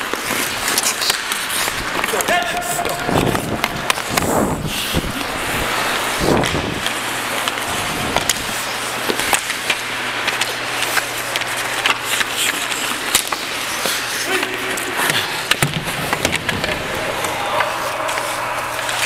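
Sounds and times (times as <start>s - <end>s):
skates scraping on ice: 0.0s - 19.0s
sticks and puck clacking: 0.0s - 19.0s
steady low hum: 1.6s - 19.0s.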